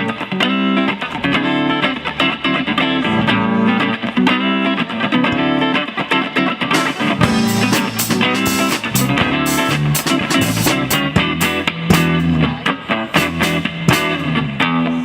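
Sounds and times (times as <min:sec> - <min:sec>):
electric guitar riff: 0:00.0 - 0:15.0.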